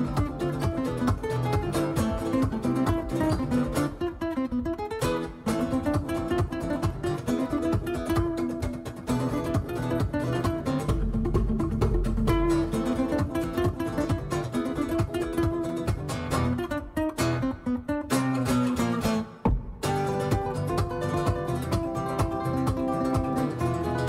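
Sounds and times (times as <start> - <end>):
acoustic guitar strummed and plucked: 0.0 - 24.0.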